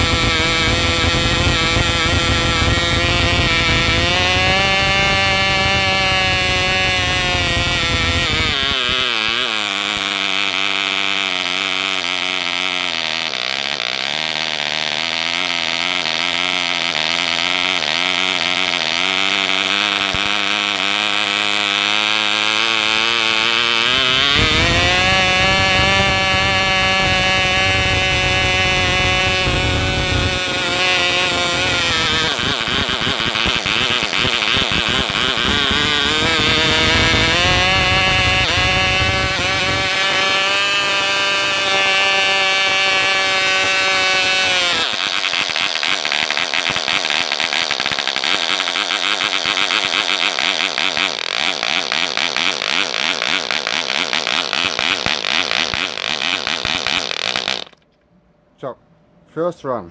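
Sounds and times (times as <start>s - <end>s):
model engine buzzing: 0.0s - 57.8s.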